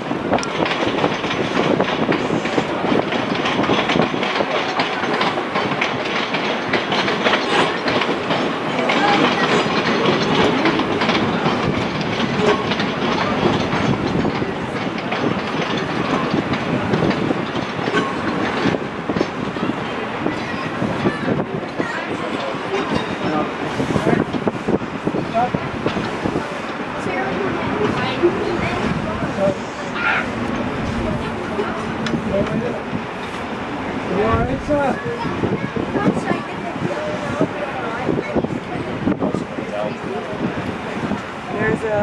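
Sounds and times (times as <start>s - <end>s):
train wheels clattering: 0.0s - 42.0s.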